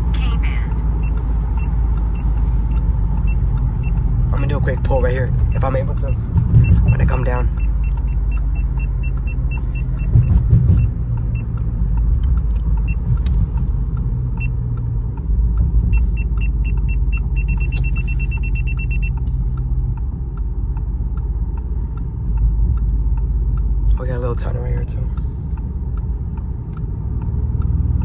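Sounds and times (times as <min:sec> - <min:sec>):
car engine rumble from inside cabin: 0:00.0 - 0:28.0.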